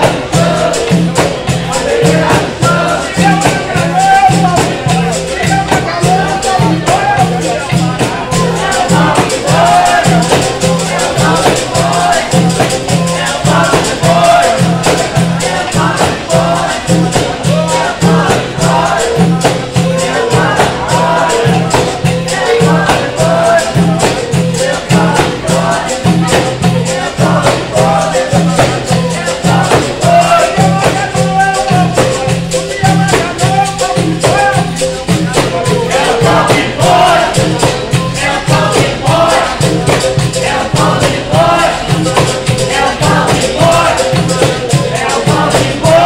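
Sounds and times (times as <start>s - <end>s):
berimbaus and tambourines beat: 0.0s - 46.0s
people singing: 0.0s - 46.0s.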